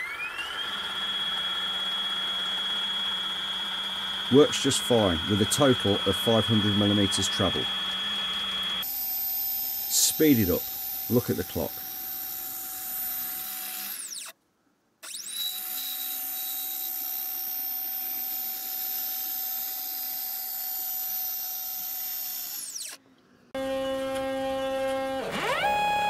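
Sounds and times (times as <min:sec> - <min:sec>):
stepper motors whining: 0:00.0 - 0:14.4, 0:15.0 - 0:23.0, 0:23.6 - 0:26.0.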